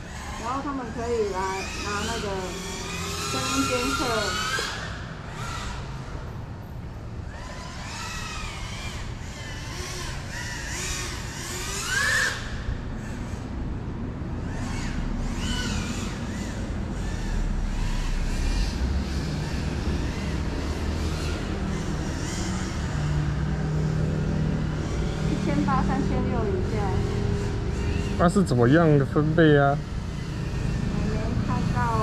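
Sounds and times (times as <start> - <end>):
drone propeller whine: 0.0 - 32.0.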